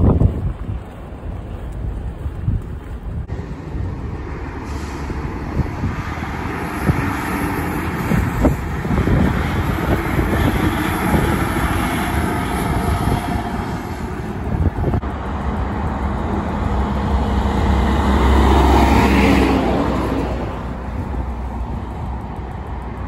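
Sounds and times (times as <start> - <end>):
constant low rumble: 0.0 - 18.4, 19.5 - 23.0
heavy truck passing: 3.2 - 23.0.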